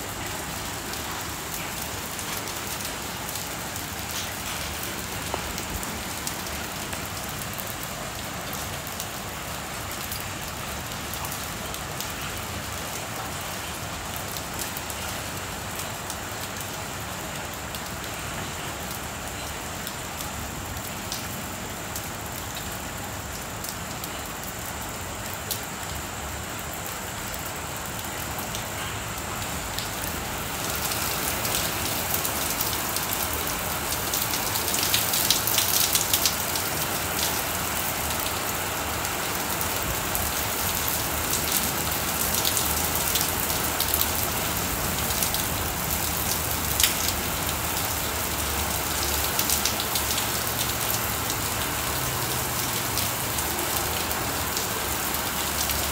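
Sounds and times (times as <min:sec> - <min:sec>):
rain on wet concrete: 0:00.0 - 0:55.9.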